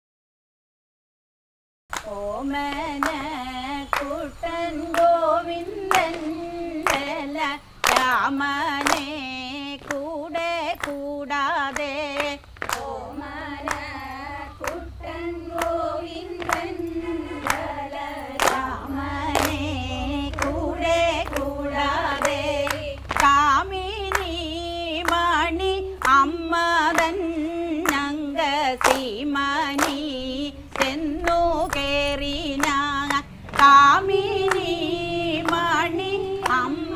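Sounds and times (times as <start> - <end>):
hand claps: 1.9 - 4.2, 4.8 - 10.1, 10.7 - 31.9, 32.5 - 36.9
women singing: 1.9 - 36.9.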